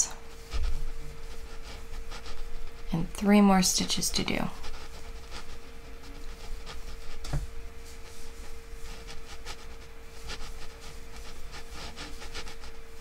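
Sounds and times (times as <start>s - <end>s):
crochet hook scratching yarn: 0.0s - 13.0s
faint steady hum: 0.0s - 13.0s.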